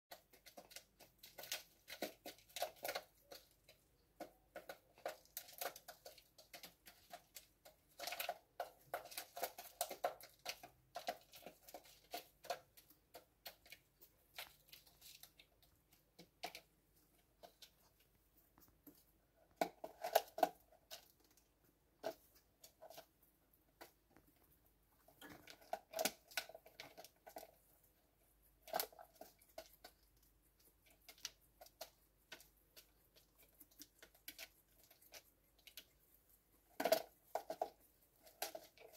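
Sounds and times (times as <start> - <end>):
faint clicks and rustles: 0.1 - 38.9.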